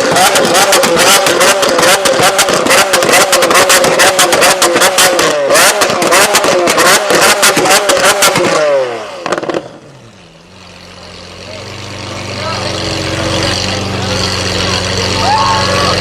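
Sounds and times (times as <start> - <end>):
car engine revving: 0.0 - 16.0
exhaust crackling and popping: 0.0 - 16.0.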